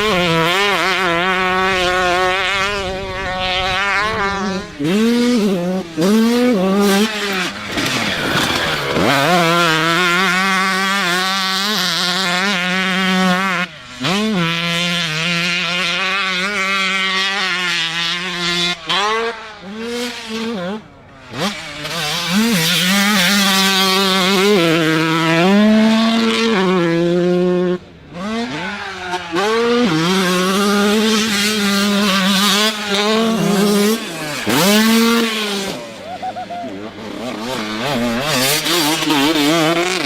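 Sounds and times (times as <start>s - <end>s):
motocross bike engine revving: 0.0s - 40.0s.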